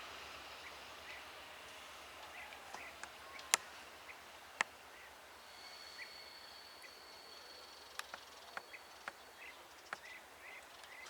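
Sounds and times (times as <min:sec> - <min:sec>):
high insect drone: 0:00.0 - 0:09.4.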